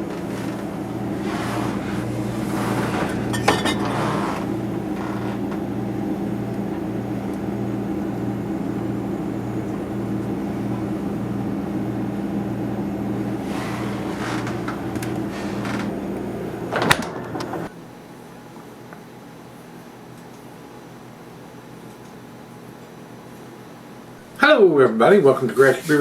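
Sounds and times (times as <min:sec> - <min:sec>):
pulsing mechanical hum: 0:00.0 - 0:26.0.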